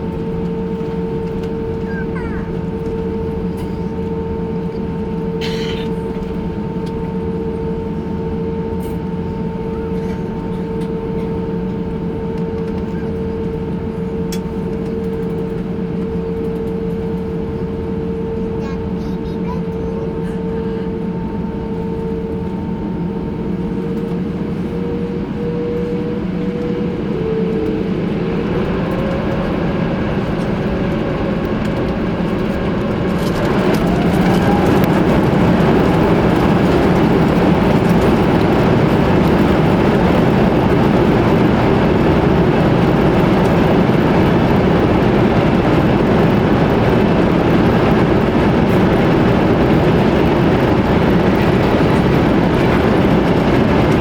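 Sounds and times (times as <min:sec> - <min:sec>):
cabin rumble: 0:00.0 - 0:54.0
jet engine whine: 0:00.0 - 0:54.0.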